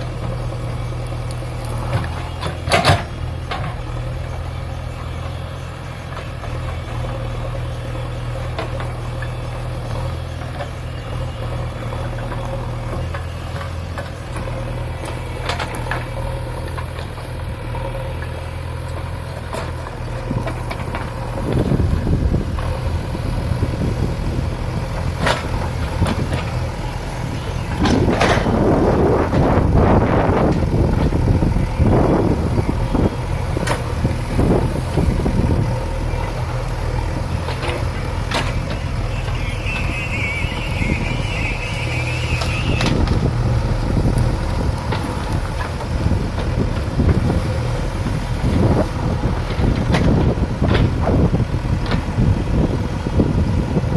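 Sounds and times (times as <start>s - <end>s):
backhoe diesel engine running: 0.0s - 53.9s.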